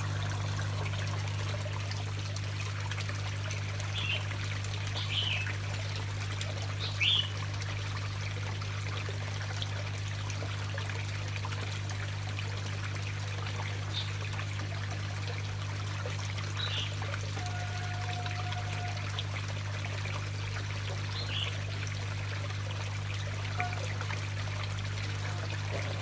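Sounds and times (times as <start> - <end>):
constant low hum: 0.0 - 26.0
water trickling in a pond: 0.0 - 26.0.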